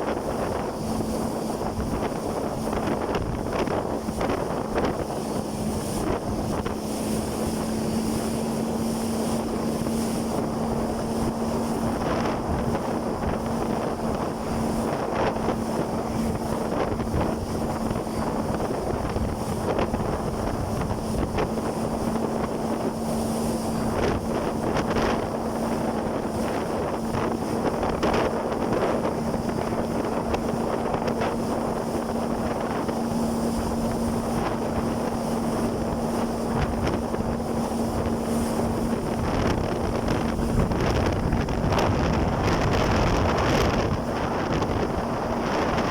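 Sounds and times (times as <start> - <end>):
jet ski engine hum: 0.0 - 45.9
water rushing: 0.0 - 45.9
wind noise on microphone: 0.0 - 45.9.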